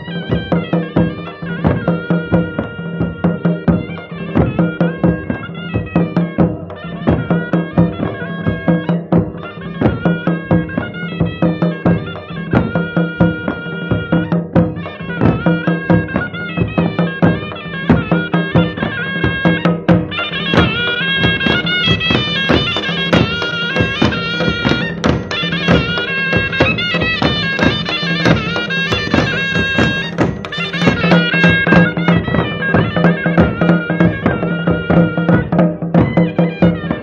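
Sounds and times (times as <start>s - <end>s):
drums beating: 0.0s - 37.0s
reedy wind instrument melody: 0.0s - 37.0s.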